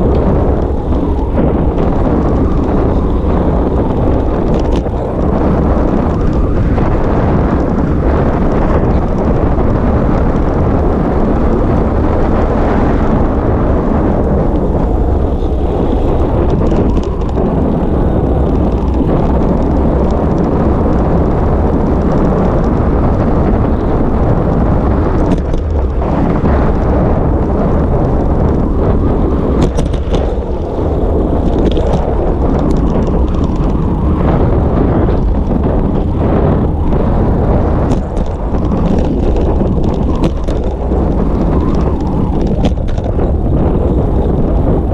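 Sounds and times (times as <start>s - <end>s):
sharp rattles from bumps: 0.0s - 44.9s
wind rumble on microphone: 0.0s - 44.9s.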